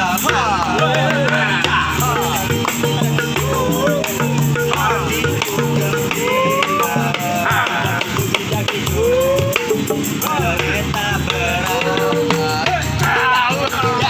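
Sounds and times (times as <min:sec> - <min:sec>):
drum beat: 0:00.0 - 0:14.0
held bass notes: 0:00.0 - 0:14.0
person singing: 0:00.0 - 0:14.0.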